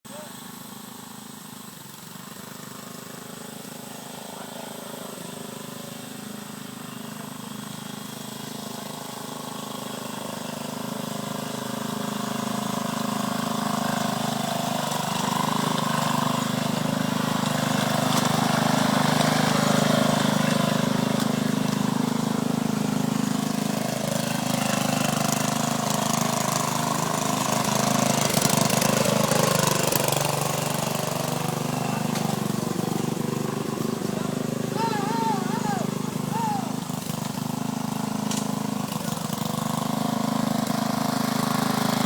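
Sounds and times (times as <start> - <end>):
lawn mower engine running: 0.1 - 42.0.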